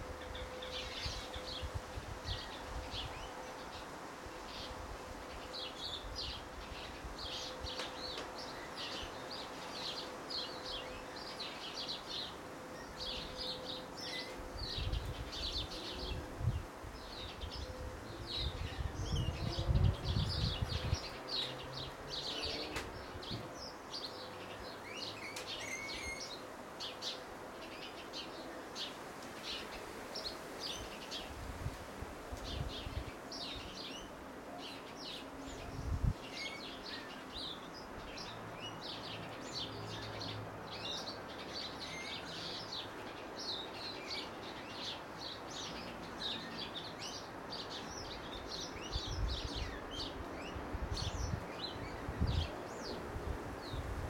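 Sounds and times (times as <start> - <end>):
small birds chirping: 2.3 - 31.3, 32.3 - 53.9.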